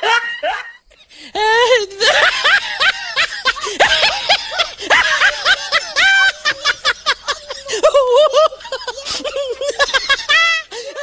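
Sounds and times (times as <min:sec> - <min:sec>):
children laughing and giggling: 0:00.0 - 0:11.0.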